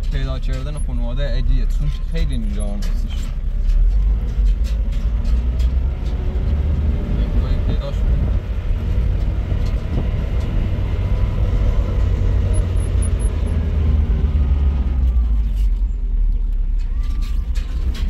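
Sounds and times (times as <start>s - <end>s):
vehicle motor rumbling: 0.0s - 18.0s.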